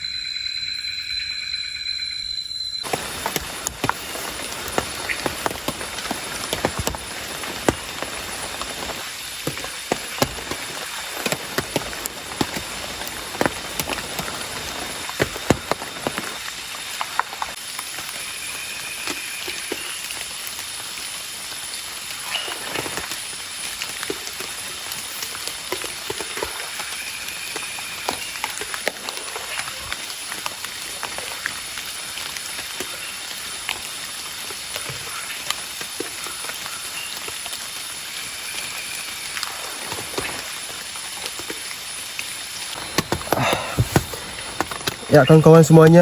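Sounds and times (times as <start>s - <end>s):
light rain falling: 2.8s - 46.0s
raindrops tapping close by: 2.8s - 46.0s.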